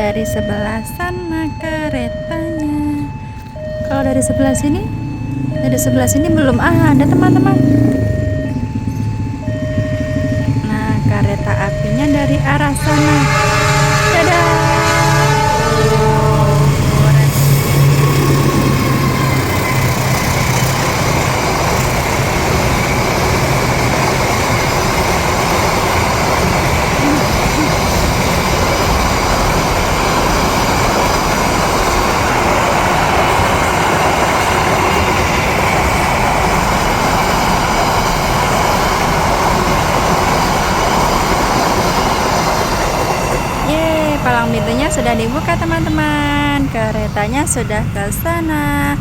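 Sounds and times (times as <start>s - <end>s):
train wheels rumbling on rails: 3.4s - 49.0s.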